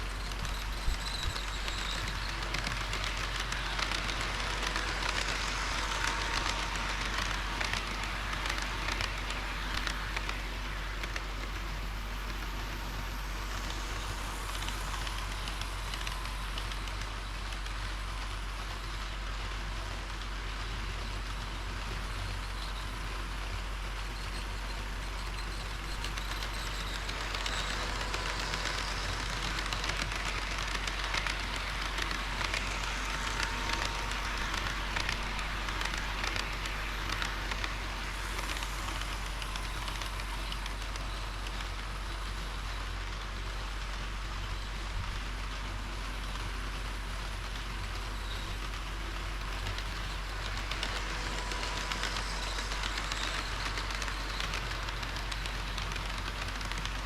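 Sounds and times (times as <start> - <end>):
model train wheels rattling on rail: 0.0 - 57.0.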